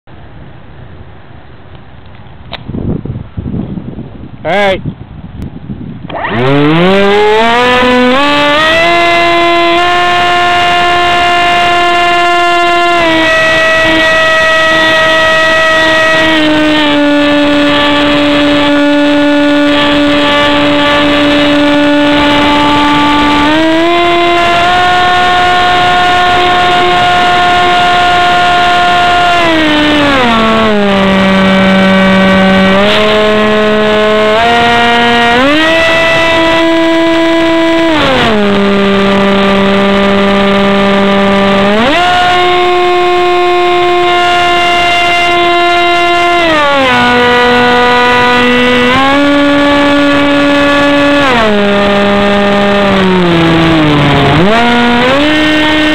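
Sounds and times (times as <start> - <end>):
model plane motor humming: 6.1 - 55.9.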